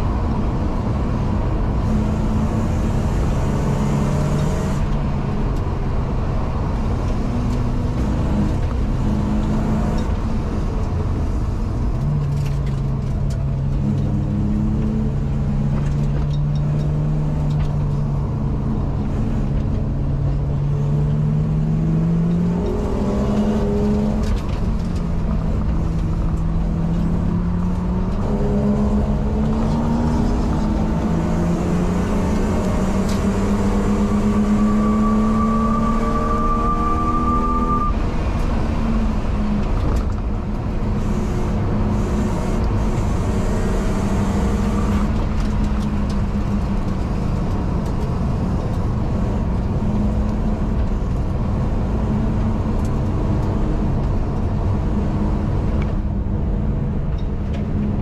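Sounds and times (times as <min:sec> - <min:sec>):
race car engine revving: 0:00.0 - 0:57.4
road and wind noise: 0:00.0 - 0:58.0.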